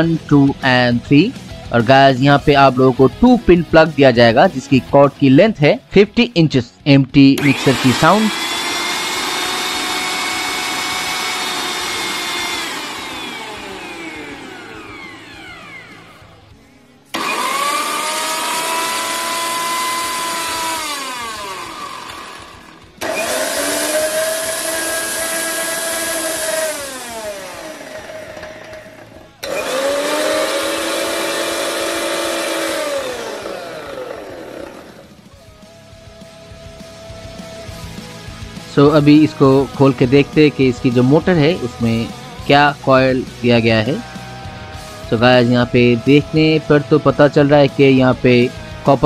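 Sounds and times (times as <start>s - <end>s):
mixer grinder motor whining: 0.0s - 1.8s, 7.2s - 49.0s.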